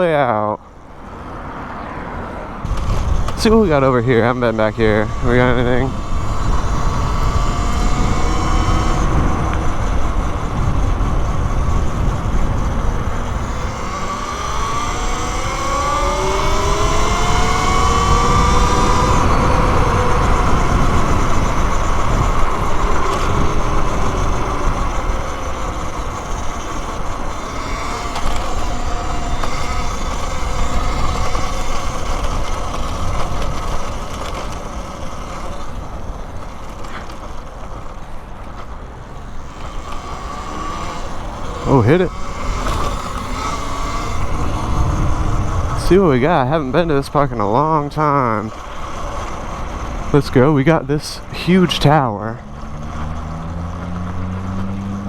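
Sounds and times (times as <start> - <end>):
electric motor whine: 0.0 - 55.0
wind rushing over microphone: 0.8 - 55.0.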